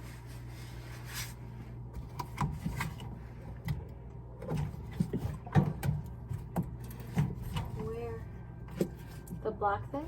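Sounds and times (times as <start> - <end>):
washing machine humming: 0.0 - 10.0.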